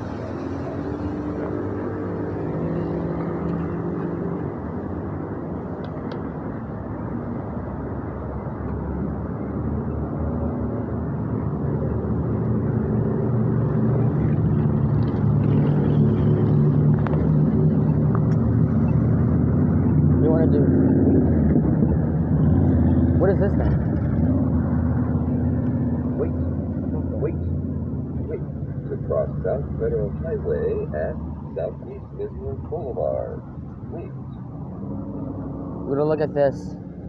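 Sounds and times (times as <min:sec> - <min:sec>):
tyres passing: 0:00.0 - 0:07.0, 0:12.4 - 0:37.0
low engine hum nearby: 0:00.0 - 0:37.0
vehicle engines running: 0:00.0 - 0:37.0.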